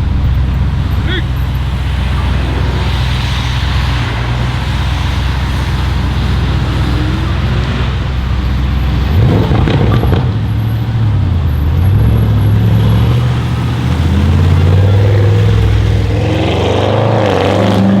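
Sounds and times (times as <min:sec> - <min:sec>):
car engine idling: 0:00.0 - 0:16.8
engine revving: 0:00.0 - 0:18.0
exhaust crackles and pops: 0:00.0 - 0:18.0.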